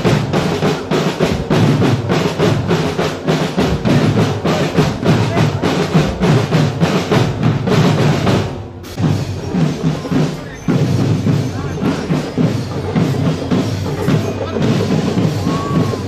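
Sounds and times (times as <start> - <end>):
snare and bass drum cadence: 0.0 - 16.0.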